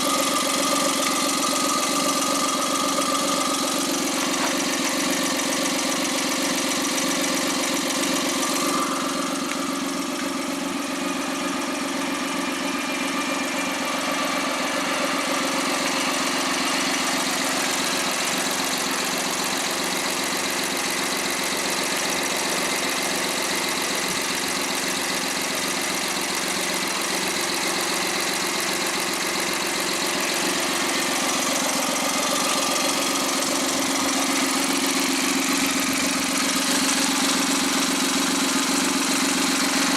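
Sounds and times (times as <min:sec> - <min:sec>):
turbo engine idling: 0:00.0 - 0:39.9.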